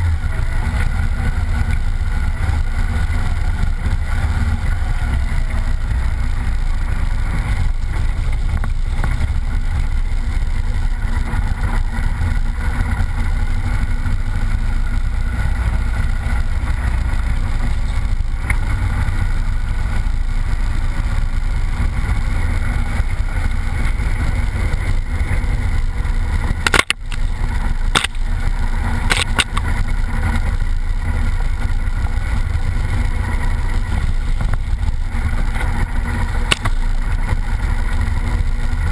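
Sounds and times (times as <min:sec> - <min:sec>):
vehicle engine and wind rumble: 0:00.0 - 0:38.9.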